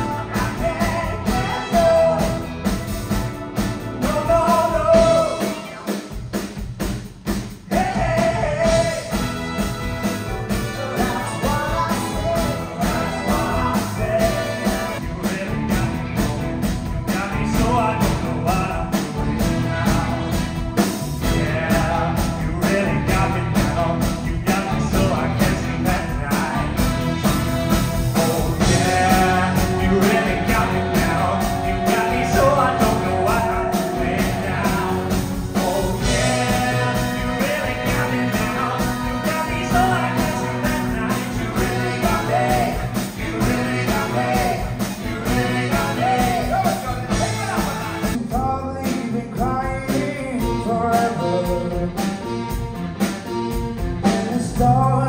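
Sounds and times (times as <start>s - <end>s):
men singing: 0.0s - 2.6s, 4.0s - 5.8s, 7.7s - 16.4s, 17.0s - 20.5s, 21.2s - 26.9s, 28.1s - 52.1s, 54.0s - 55.0s
drums keeping a steady beat: 0.0s - 55.0s
rock and roll band playing: 0.0s - 55.0s.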